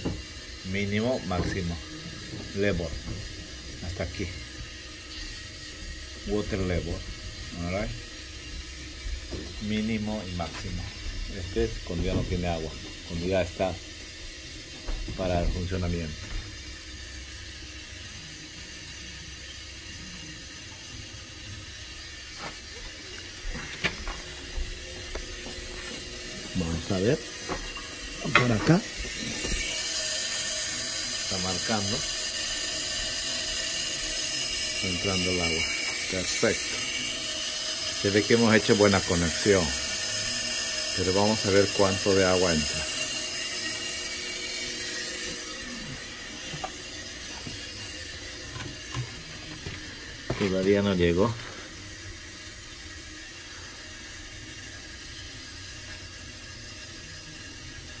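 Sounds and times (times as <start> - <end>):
water hissing into boiler: 0.0 - 58.0.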